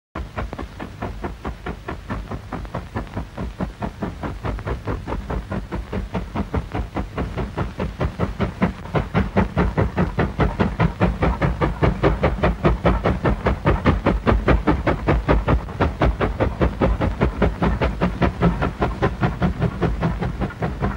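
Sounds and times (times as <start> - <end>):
steam locomotive chuffing: 0.2 - 20.9.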